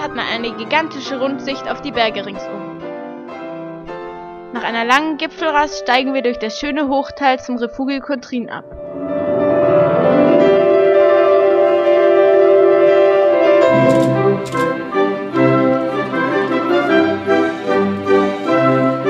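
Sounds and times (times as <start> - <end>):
classical background music: 0.0 - 19.0.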